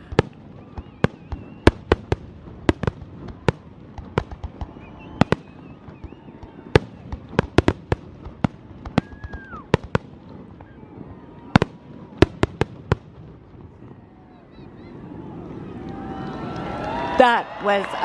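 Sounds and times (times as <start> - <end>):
fireworks whistling: 0.0 - 16.5
fireworks bangs: 0.0 - 18.0.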